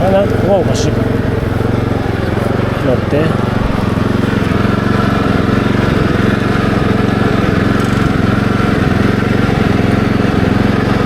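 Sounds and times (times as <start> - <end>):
small engine running steadily: 0.0 - 11.0.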